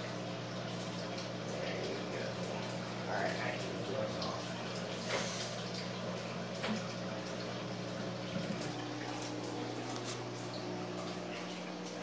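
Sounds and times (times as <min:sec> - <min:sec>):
aquarium filter hum: 0:00.0 - 0:12.0
water trickling: 0:00.0 - 0:12.0.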